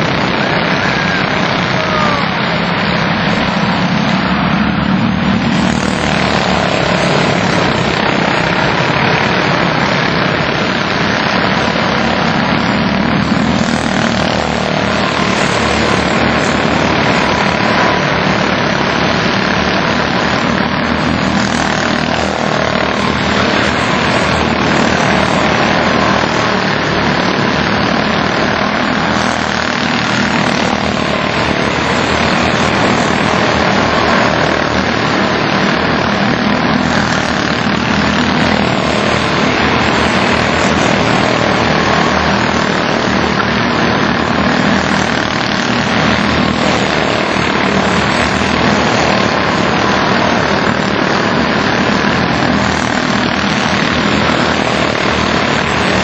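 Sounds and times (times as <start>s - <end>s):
small race car engines buzzing: 0.0s - 56.0s.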